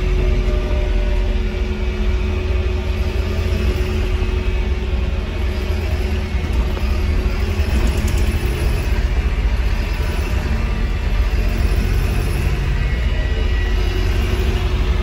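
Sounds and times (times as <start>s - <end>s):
bus cabin low rumble: 0.0s - 15.0s
faint whining tones: 0.0s - 15.0s.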